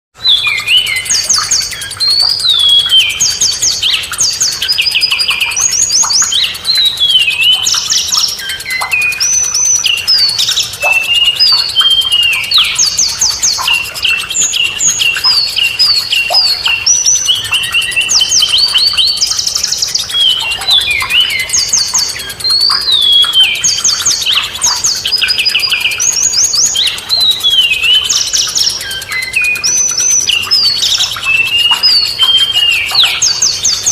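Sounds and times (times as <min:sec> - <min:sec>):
songbird chirps and trills: 0:00.2 - 0:33.9.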